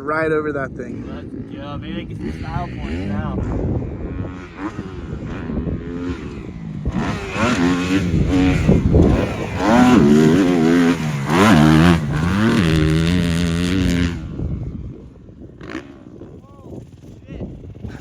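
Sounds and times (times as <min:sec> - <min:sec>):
dirt bike engine revving: 0:00.8 - 0:18.0.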